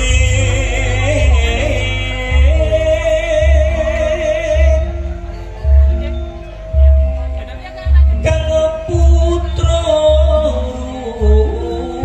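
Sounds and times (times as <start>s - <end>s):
deep beat: 0.0s - 12.0s.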